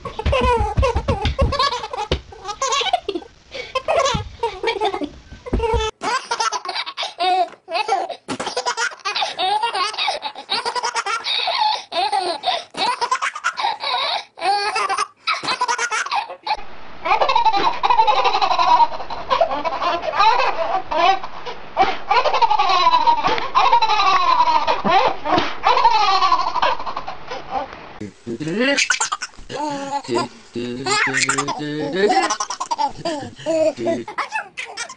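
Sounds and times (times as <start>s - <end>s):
babies laughing: 0.1s - 34.9s.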